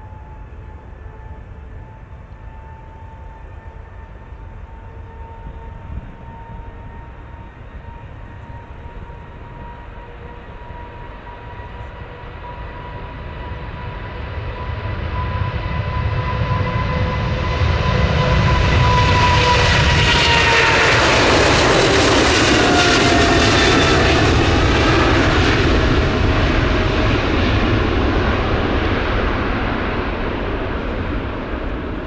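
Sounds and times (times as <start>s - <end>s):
jet engine rumble and whine: 0.0s - 32.0s.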